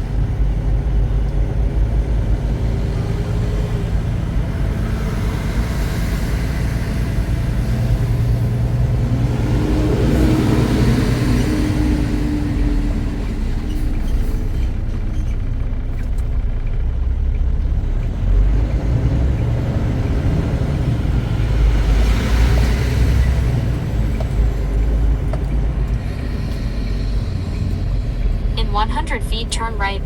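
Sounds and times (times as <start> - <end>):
truck engine and road drone: 0.0 - 30.0.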